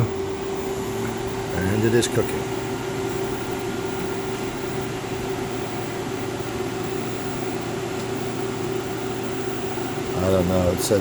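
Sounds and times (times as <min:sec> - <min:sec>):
oven blower rushing: 0:00.0 - 0:11.0
oven hum: 0:00.0 - 0:11.0.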